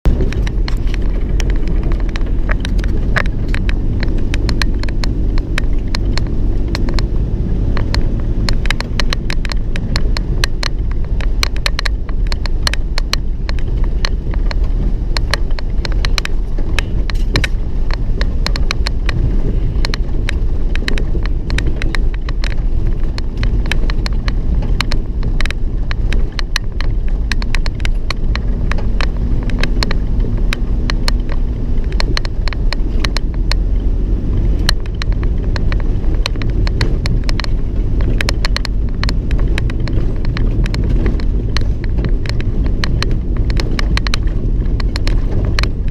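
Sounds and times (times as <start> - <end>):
engine and road rumble: 0.0 - 45.9.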